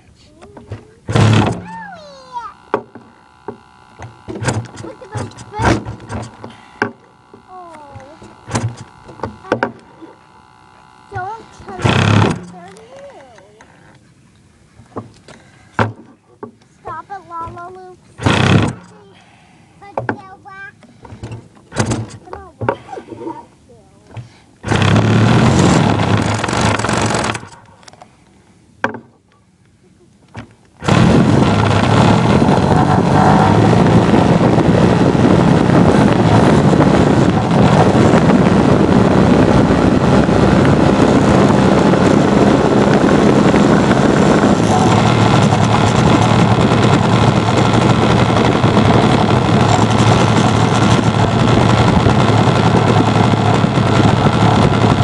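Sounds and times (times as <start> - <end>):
model airplane motor and propeller: 0.0 - 55.0
prop wash buffeting microphone: 0.0 - 55.0.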